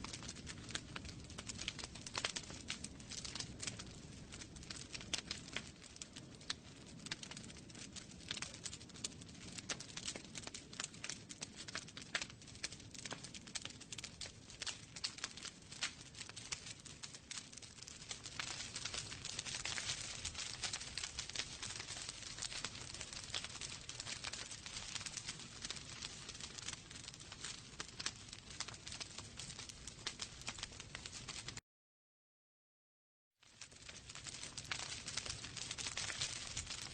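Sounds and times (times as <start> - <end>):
wood fire crackling: 0.0 - 31.6, 33.4 - 36.9.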